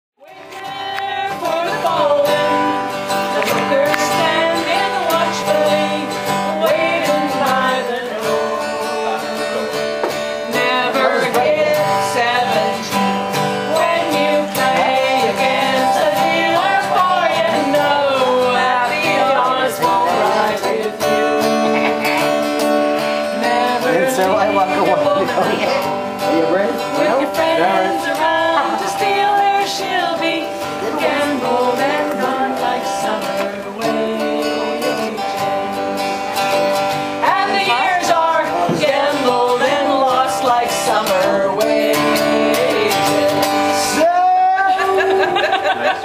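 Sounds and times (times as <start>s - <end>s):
acoustic guitar: 0.2s - 46.0s
person singing: 0.2s - 46.0s.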